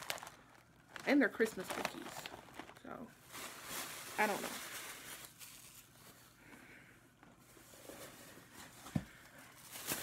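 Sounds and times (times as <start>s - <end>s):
grocery packages handled: 0.0s - 10.0s.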